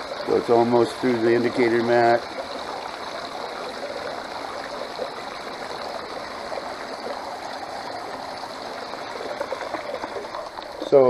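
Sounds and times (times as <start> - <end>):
water pouring into bucket: 0.0 - 11.0
water running down sluice box: 0.0 - 11.0.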